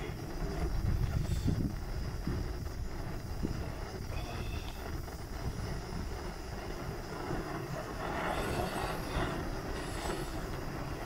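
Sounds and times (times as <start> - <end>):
gas stove burning: 0.0 - 11.0.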